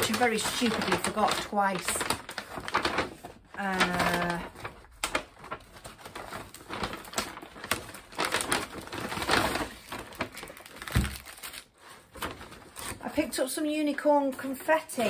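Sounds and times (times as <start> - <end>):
paper bag rustling: 0.0 - 13.4.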